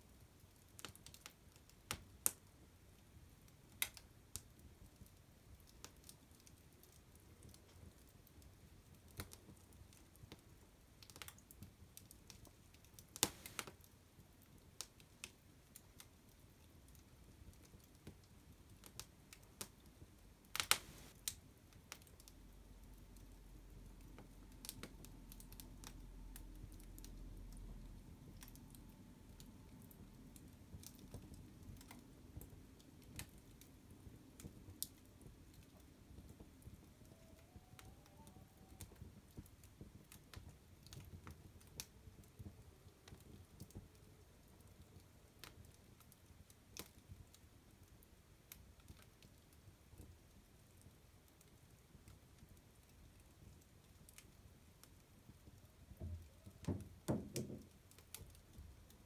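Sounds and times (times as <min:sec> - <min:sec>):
fire crackling: 0:00.2 - 0:59.0.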